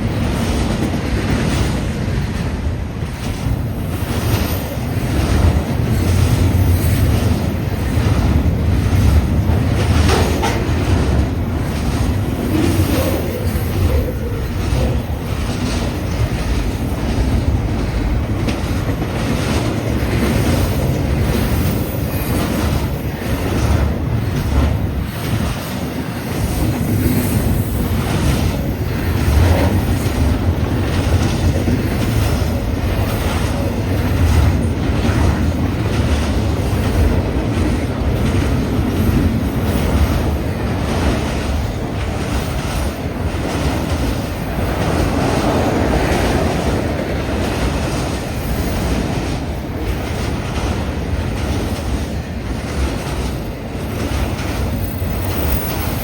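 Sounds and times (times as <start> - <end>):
freight train clattering over rails: 0.0 - 56.0
wind buffeting microphone: 0.0 - 56.0.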